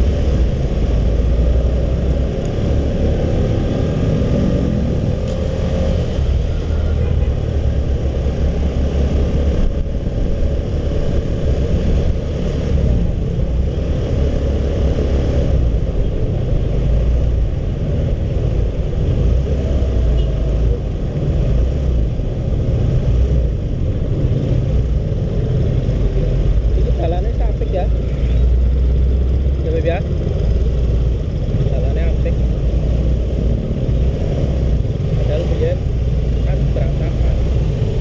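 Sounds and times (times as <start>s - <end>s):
road noise: 0.0s - 38.0s.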